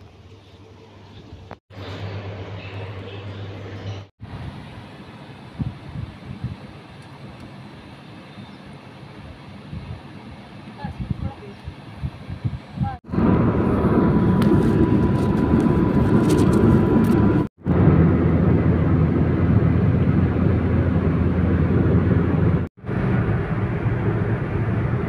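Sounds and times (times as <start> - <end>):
road and wind rumble in car: 4.2 - 25.0.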